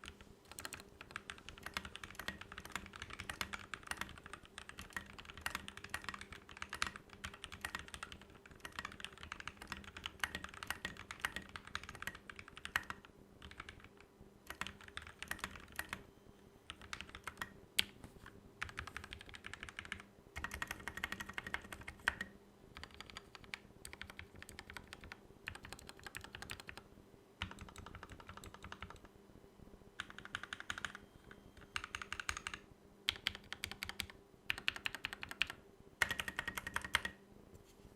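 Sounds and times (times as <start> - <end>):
mechanical keyboard typing: 0.0 - 16.1, 16.7 - 18.0, 18.6 - 26.8, 27.4 - 29.1, 30.0 - 37.2.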